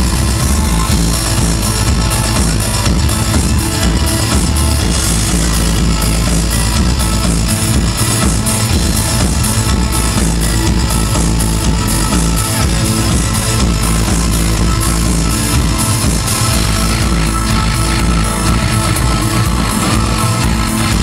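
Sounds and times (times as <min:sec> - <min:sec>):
loud electronic industrial music: 0:00.0 - 0:21.0.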